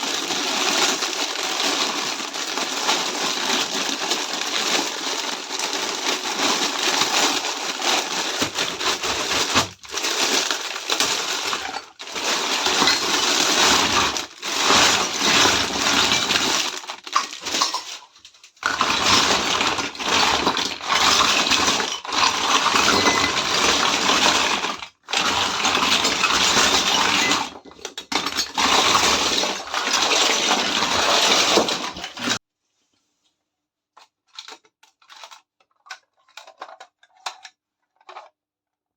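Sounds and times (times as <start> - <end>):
packaging crinkling: 0.0 - 32.4.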